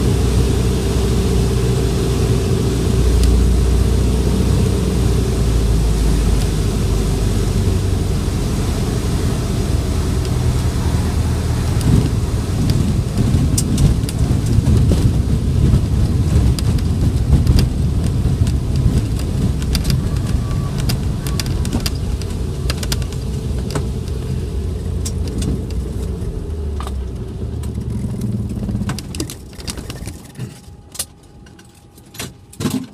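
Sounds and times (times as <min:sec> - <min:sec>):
plane engine and propeller: 0:00.0 - 0:32.9.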